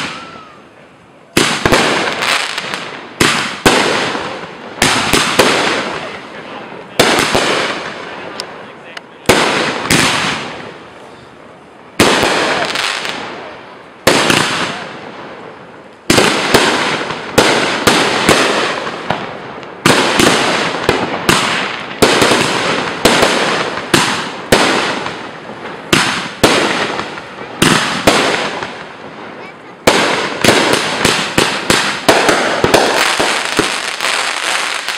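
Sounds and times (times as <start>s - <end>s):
fireworks bangs: 0.0s - 34.9s
fireworks crackle and hiss: 0.0s - 34.9s.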